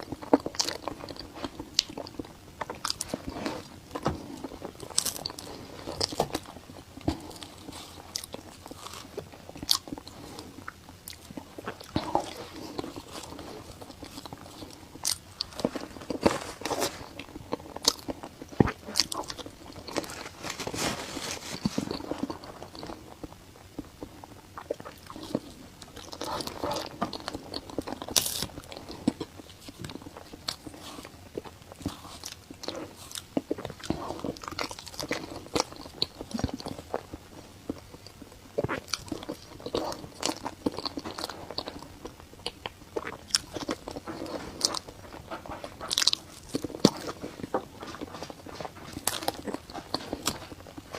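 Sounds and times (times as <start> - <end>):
person biting and chewing food: 0.0 - 50.9.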